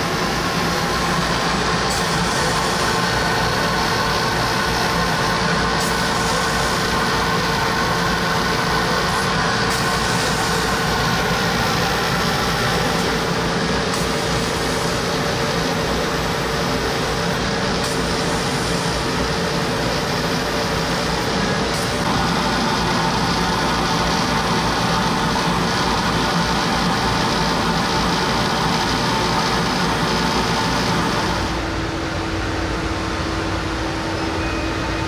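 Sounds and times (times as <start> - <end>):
laser cutter whirring: 0.0 - 35.0.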